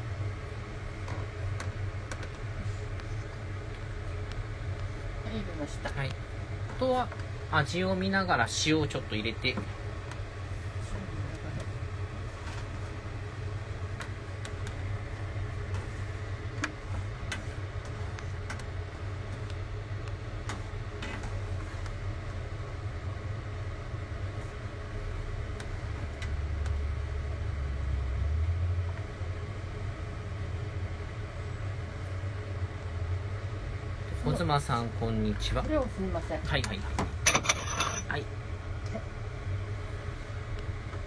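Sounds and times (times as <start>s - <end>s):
low steady rumble: 0.0s - 41.0s.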